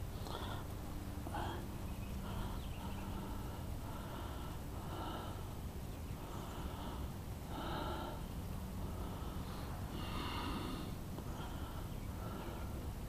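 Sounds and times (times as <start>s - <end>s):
faint low hum: 0.0s - 13.0s
person breathing close to microphone: 0.0s - 13.0s.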